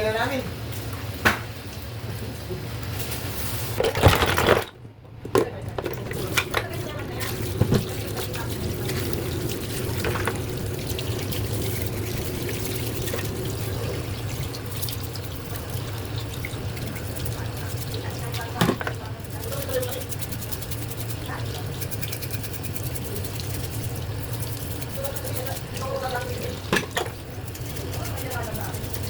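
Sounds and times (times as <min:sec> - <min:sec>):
tap water running into sink: 0:05.7 - 0:29.0.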